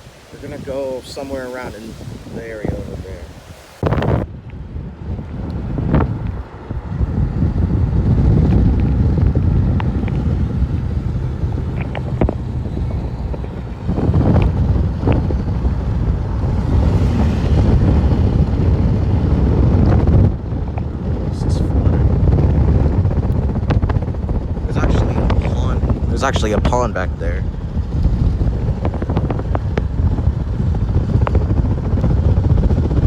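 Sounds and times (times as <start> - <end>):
wind gusting across microphone: 0.0 - 33.0.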